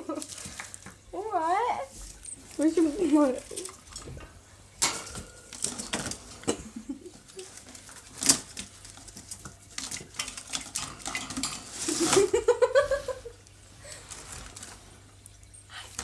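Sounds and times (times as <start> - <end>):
small objects clattering in cage: 0.0 - 16.0.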